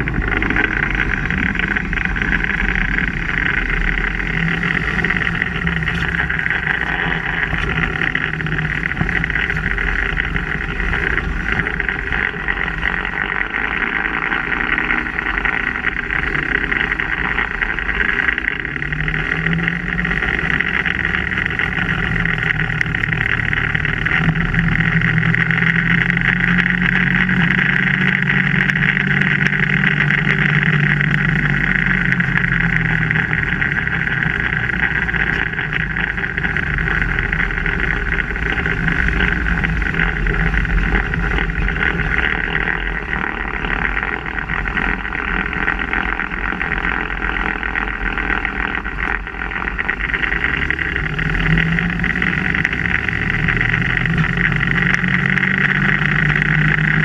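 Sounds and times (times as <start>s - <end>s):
low drivetrain hum: 0.0s - 57.0s
steady high-pitched whine: 0.0s - 57.0s.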